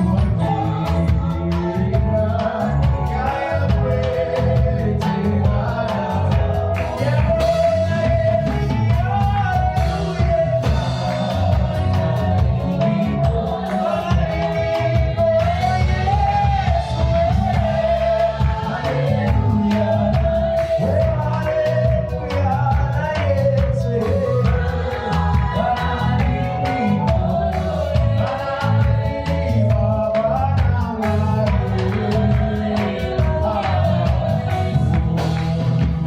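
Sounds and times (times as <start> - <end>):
heavy bass: 0.0 - 36.0
worship band playing gospel music: 0.0 - 36.0.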